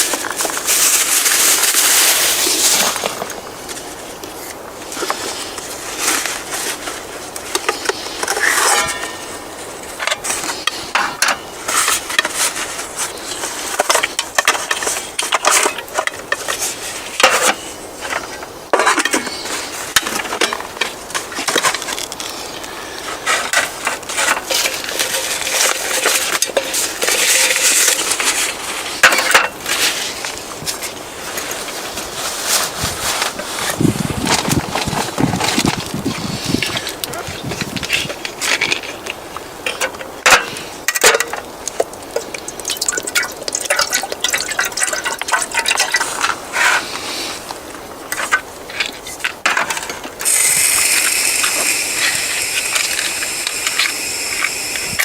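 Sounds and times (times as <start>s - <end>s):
crunching and clinking: 0.0s - 55.0s.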